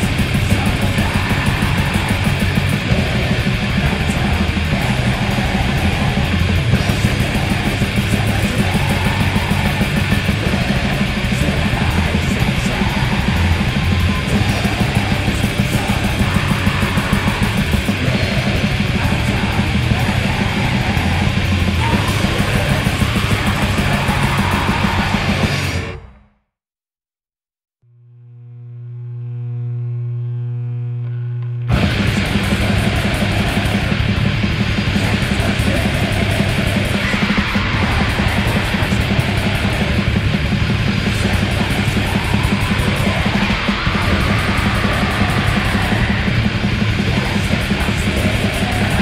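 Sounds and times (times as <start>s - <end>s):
pounding drums: 0.0s - 25.8s, 31.7s - 49.0s
distorted guitars: 0.0s - 26.3s, 28.2s - 49.0s.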